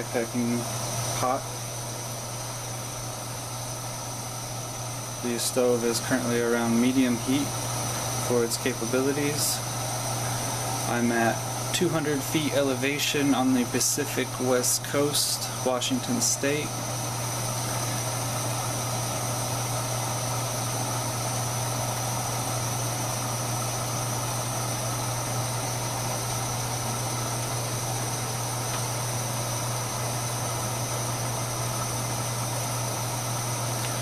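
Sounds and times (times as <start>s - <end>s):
camping stove burner roar: 0.0s - 34.0s.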